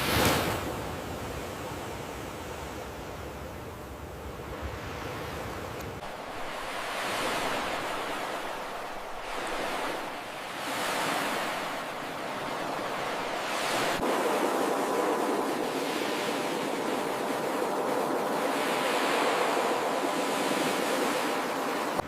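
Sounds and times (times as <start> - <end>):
ocean waves breaking: 0.0 - 3.4, 4.0 - 22.0.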